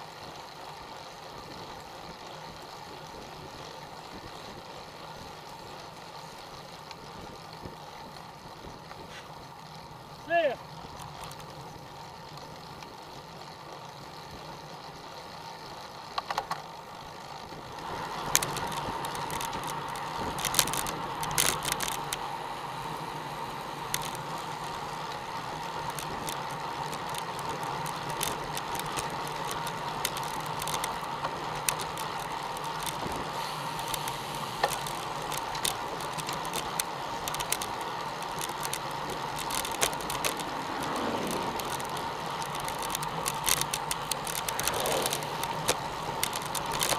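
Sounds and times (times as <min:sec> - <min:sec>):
bicycle tyre and road noise: 0:00.0 - 0:46.9
bike rattles and clicks: 0:00.0 - 0:46.9.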